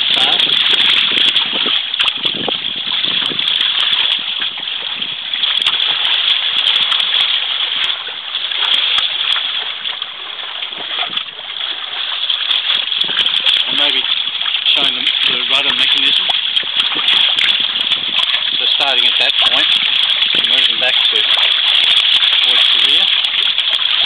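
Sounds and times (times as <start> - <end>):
water rushing and splashing: 0.0 - 24.0.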